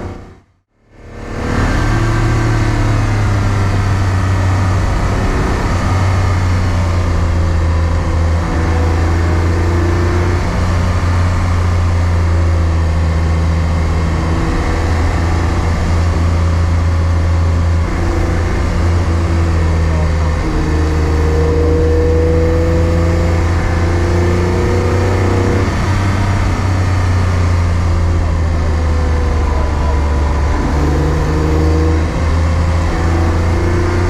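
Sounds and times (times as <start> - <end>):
car engine drone: 0.0 - 34.0
road and wind noise: 0.0 - 34.0.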